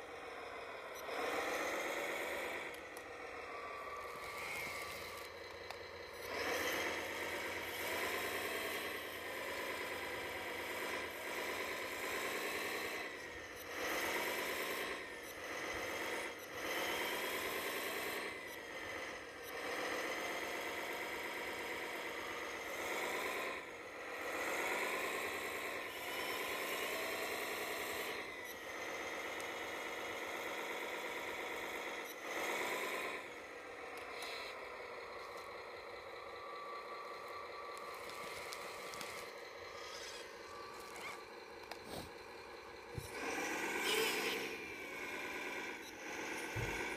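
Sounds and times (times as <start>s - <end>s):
toy excavator motors whining: 0.0s - 46.9s.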